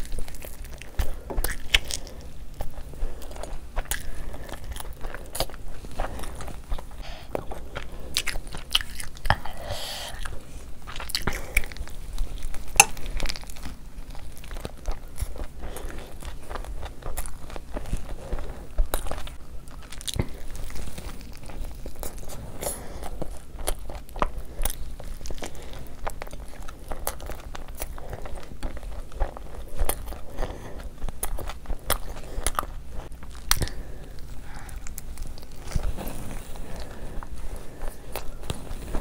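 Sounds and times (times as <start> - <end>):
crunchy eating and chewing: 0.0 - 39.0.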